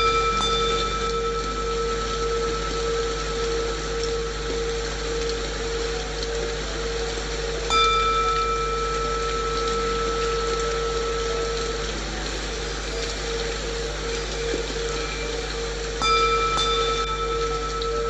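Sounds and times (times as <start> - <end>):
singing bowl struck and ringing: 0.0 - 6.3, 7.6 - 18.0
low singing bowl hum: 0.0 - 18.0
rain-like white noise: 0.0 - 18.0.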